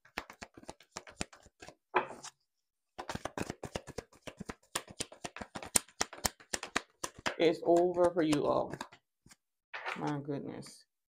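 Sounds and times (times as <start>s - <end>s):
cards being shuffled: 0.0s - 2.4s, 3.0s - 10.2s.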